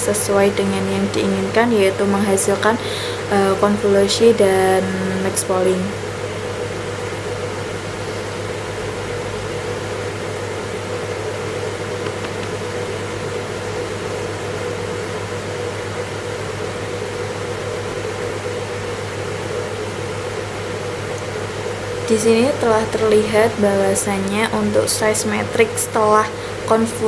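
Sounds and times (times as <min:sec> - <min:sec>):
fan whirring: 0:00.0 - 0:27.0.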